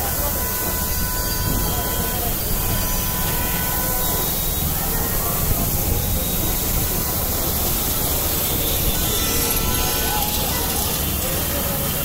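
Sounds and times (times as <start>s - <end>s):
water jetting under high pressure: 0.0s - 12.0s.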